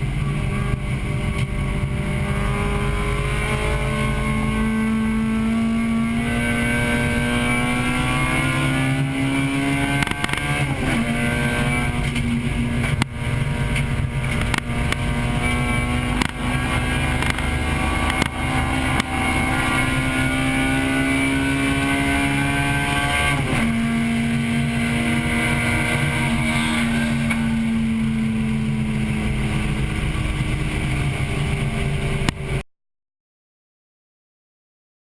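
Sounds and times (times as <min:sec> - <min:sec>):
car engine at speed: 0:00.0 - 0:32.6.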